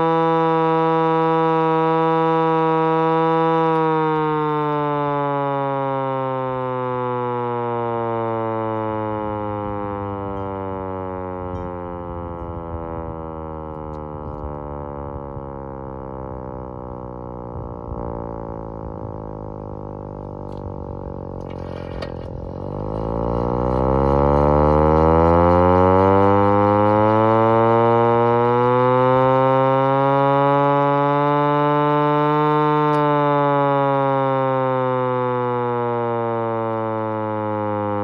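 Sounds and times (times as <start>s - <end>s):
hand-crank siren wailing: 0.0s - 38.0s.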